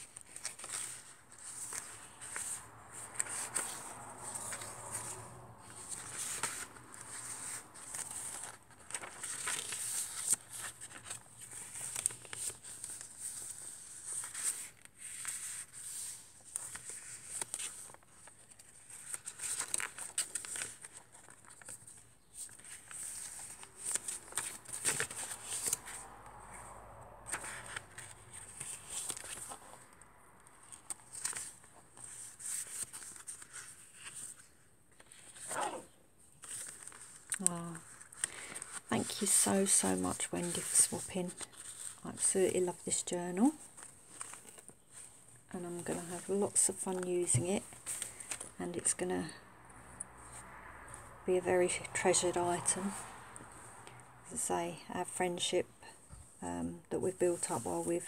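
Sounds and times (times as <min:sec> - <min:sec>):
paper pages rustling and crinkling: 0:00.0 - 0:49.4, 0:57.1 - 0:58.0.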